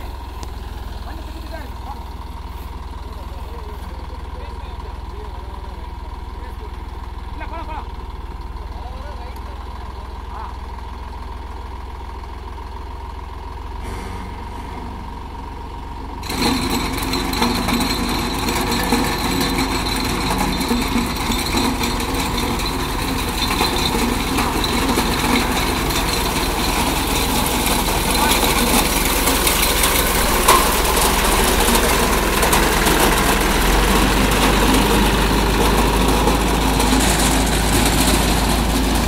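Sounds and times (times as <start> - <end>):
reaper rattling clatter: 0.0 - 7.8, 13.8 - 39.0
diesel tractor engine: 0.0 - 39.0.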